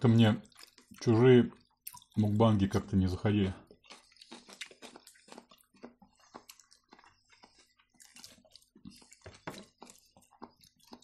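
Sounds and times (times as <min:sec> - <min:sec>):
chewing and mouth smacks: 0:00.4 - 0:02.4, 0:03.6 - 0:11.0.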